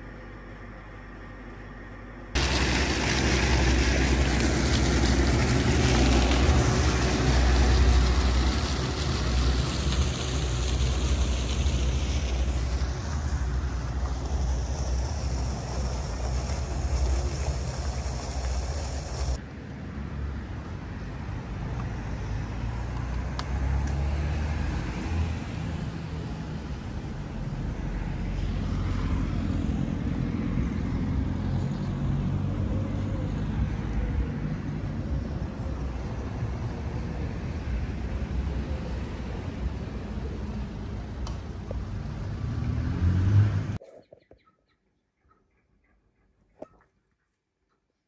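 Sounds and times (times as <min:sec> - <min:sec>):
town street ambience: 0:00.0 - 0:48.0.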